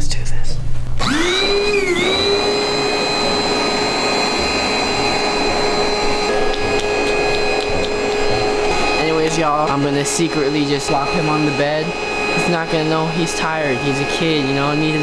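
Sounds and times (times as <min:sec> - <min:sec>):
air pump motor whine: 0:01.0 - 0:15.0.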